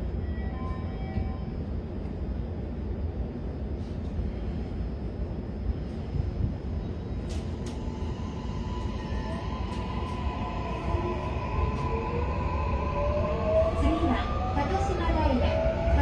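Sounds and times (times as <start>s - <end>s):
train rumble from inside carriage: 0.0s - 16.0s.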